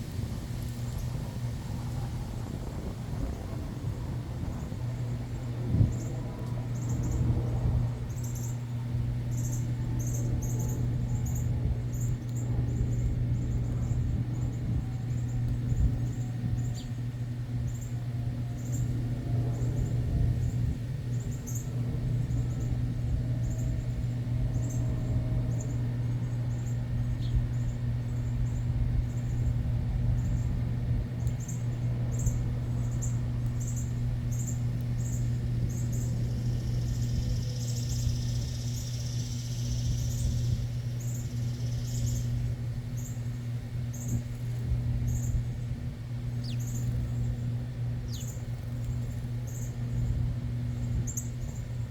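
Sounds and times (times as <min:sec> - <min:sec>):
steady low hum: 0:00.0 - 0:51.9
small birds chirping: 0:04.4 - 0:51.9.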